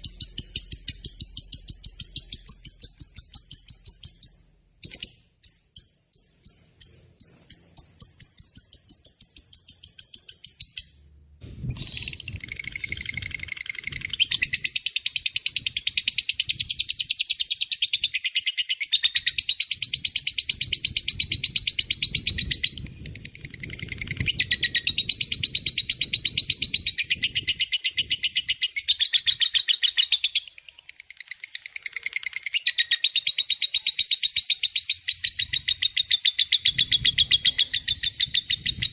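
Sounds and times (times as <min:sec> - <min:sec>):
lovebird chattering: 0:00.0 - 0:11.0, 0:11.7 - 0:33.2.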